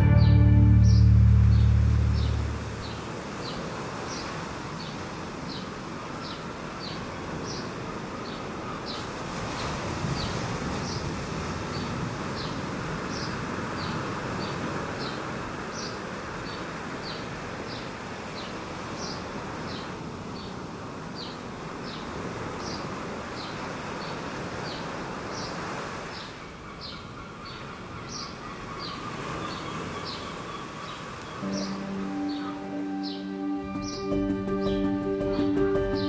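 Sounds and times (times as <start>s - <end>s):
wind: 0.0s - 36.0s
small waves: 1.4s - 32.8s.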